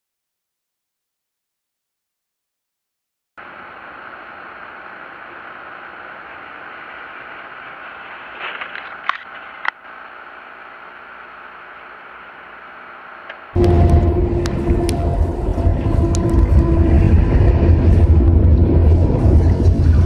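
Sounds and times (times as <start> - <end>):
road and rain noise in car: 3.4 - 20.0.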